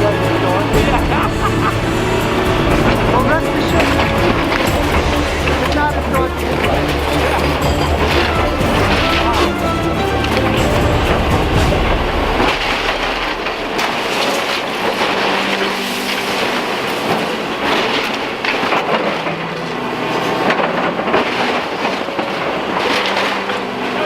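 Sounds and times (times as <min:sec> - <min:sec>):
demolition machine engine running: 0:00.0 - 0:23.9.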